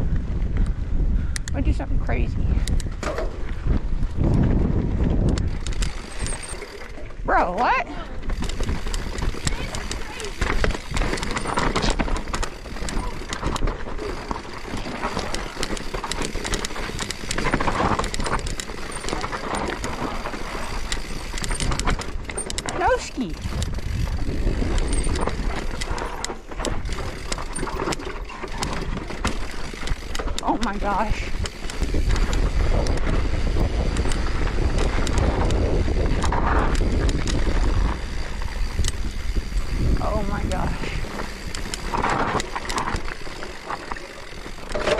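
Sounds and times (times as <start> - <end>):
wind on microphone: 0.0 - 43.1
bike clicks and rattles: 0.0 - 44.9
tyre and trail noise: 0.0 - 44.9.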